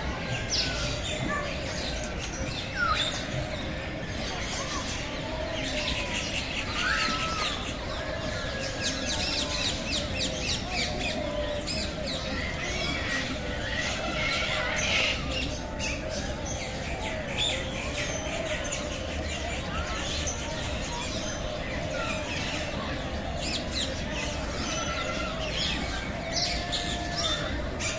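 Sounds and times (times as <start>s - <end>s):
birds chirping and squawking: 0.0s - 27.9s.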